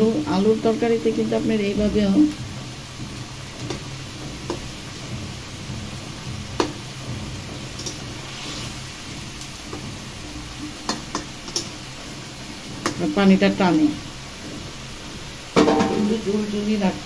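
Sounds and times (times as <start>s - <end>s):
curry simmering with low sizzle: 0.0s - 17.0s.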